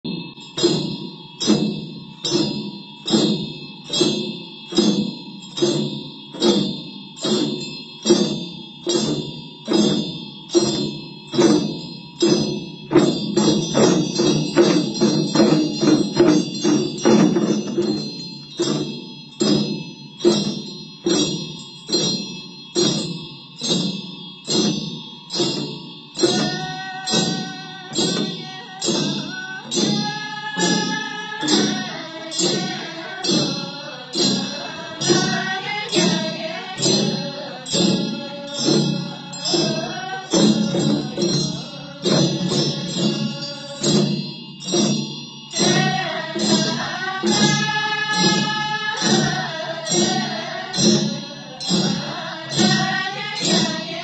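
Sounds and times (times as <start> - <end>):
small hand bells ringing: 0.0 - 54.0
double-sided hand drums twirled: 0.1 - 54.0.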